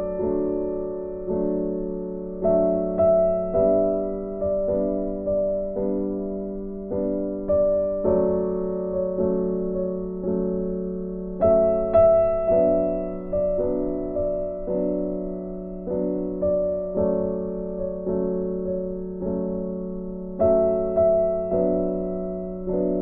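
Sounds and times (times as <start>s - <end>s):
piano notes and chords: 0.0s - 23.0s.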